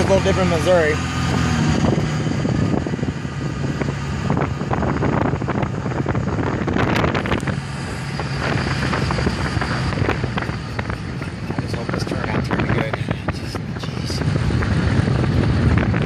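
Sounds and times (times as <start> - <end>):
vehicle engine humming: 0.0 - 16.0
wind buffeting microphone: 0.0 - 16.0.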